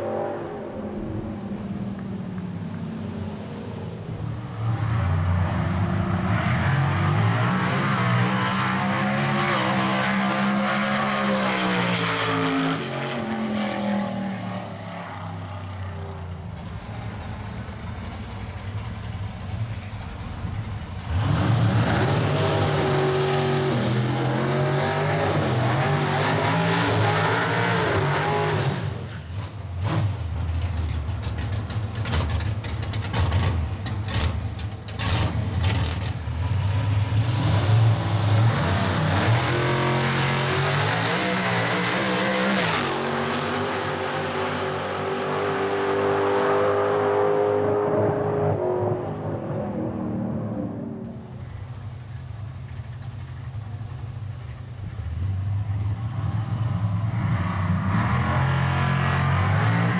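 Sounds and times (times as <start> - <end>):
drag racing truck engine: 0.0 - 59.9.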